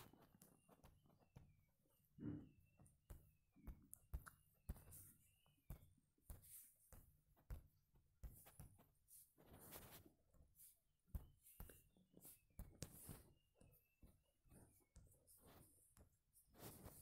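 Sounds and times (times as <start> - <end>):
faint irregular taps and knocks: 0.0 - 17.0.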